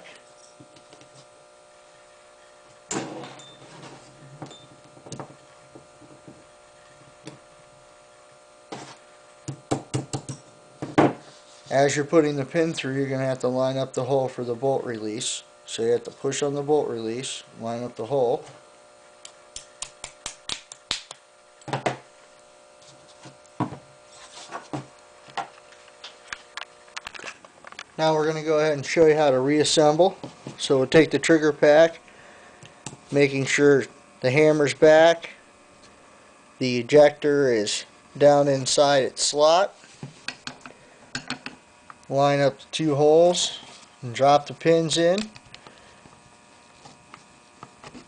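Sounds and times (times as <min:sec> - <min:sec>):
steady electrical hum: 0:00.0 - 0:48.0.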